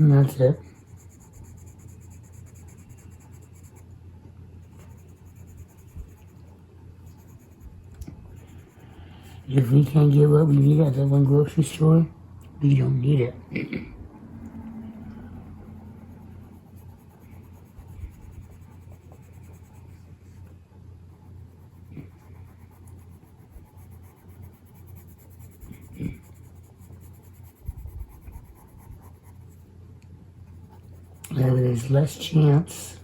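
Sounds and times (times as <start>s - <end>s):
pencil scratching on paper: 0.0s - 4.0s, 4.6s - 11.8s, 15.4s - 20.5s, 21.1s - 29.6s, 30.5s - 32.4s
steady low hum: 0.0s - 33.0s.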